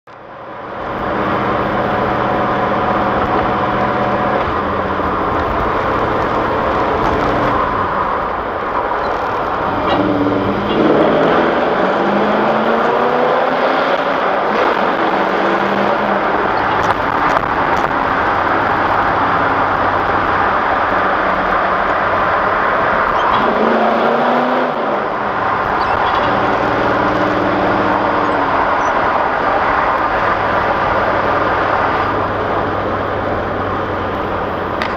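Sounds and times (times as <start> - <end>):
car engine revving in tunnel: 0.1 - 34.9.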